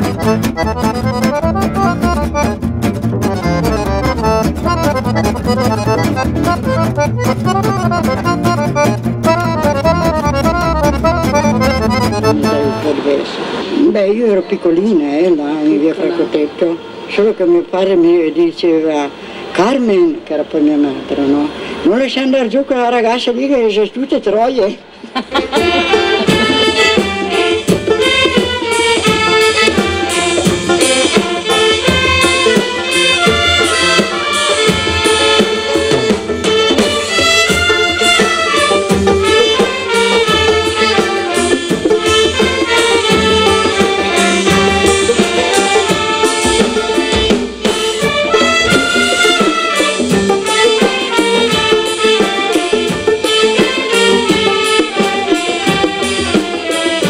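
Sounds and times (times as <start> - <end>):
band with hand drums and horns: 0.0 - 57.0.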